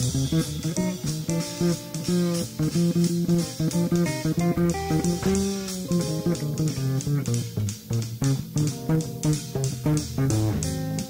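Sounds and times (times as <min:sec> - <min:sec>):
bass guitar line: 0:00.0 - 0:11.0
guitar melody with bent notes: 0:00.0 - 0:11.0
steady ticking beat: 0:00.0 - 0:11.0.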